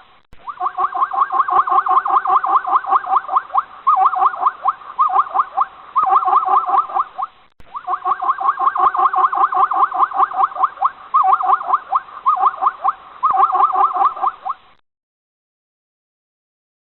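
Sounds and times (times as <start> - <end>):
small animal squeaking: 0.4 - 14.7.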